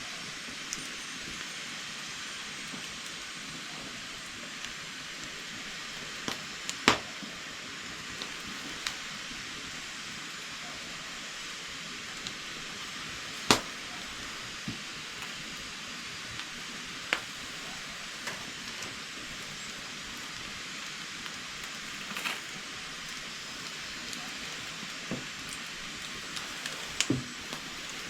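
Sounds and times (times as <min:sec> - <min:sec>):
steady hiss: 0:00.0 - 0:28.0
firewood cracking: 0:00.7 - 0:28.0.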